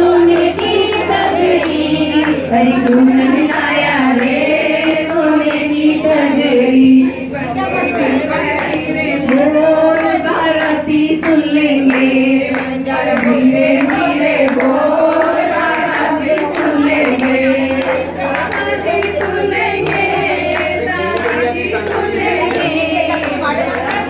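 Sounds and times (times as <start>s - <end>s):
hands clapping along: 0.0s - 6.0s, 8.0s - 24.0s
women singing in chorus: 0.0s - 24.0s.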